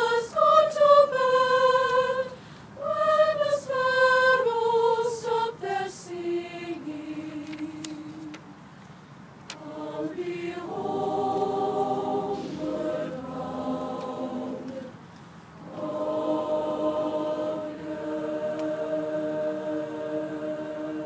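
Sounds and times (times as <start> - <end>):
choir singing long-held chords: 0.0 - 8.6, 9.5 - 21.0.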